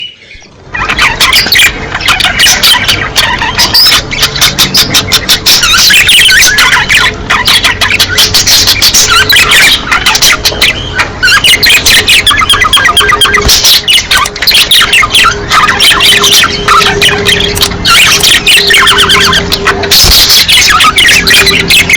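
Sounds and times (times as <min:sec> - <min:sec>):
budgerigars chattering: 0:00.0 - 0:21.9.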